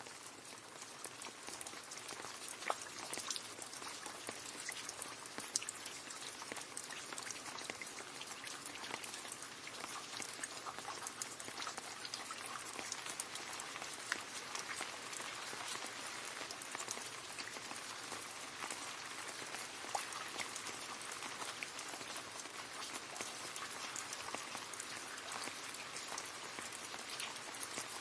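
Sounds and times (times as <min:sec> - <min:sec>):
rain falling into a puddle: 0:00.0 - 0:28.0.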